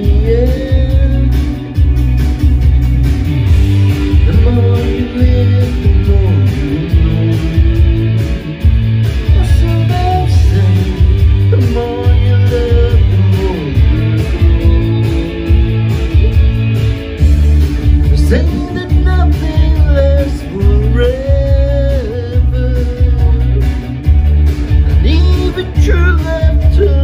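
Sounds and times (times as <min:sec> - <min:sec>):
person singing into a microphone: 0:00.0 - 0:01.9, 0:03.9 - 0:16.8, 0:18.0 - 0:23.9, 0:24.8 - 0:27.0
heavy pulsing bass beat: 0:00.0 - 0:27.0
karaoke backing track with guitar: 0:00.0 - 0:27.0.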